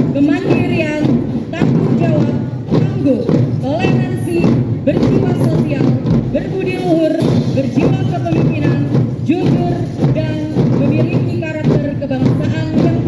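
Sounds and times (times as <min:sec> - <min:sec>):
marching drums beating: 0:00.0 - 0:13.0.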